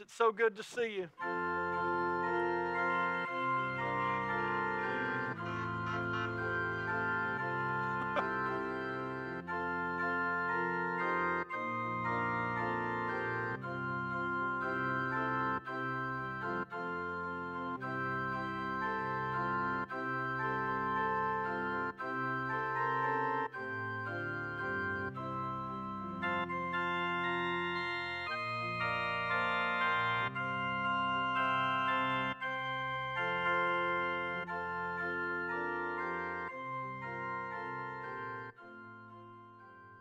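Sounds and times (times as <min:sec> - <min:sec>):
electronic organ chords: 0:01.2 - 0:40.0.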